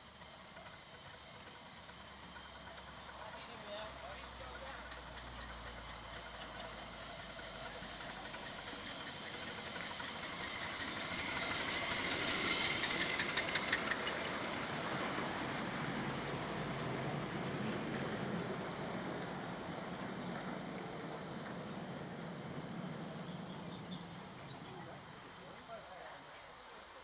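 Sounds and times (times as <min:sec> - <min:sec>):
steam locomotive hissing: 0:00.0 - 0:27.0
train rumbling past: 0:00.0 - 0:27.0.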